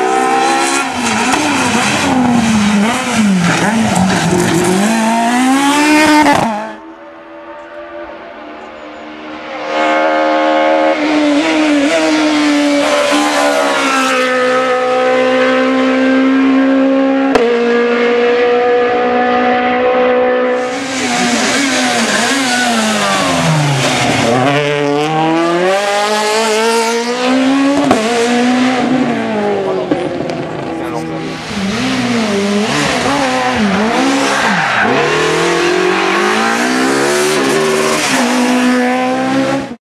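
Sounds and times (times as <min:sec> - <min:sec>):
rally car engine revving: 0:00.0 - 0:39.8.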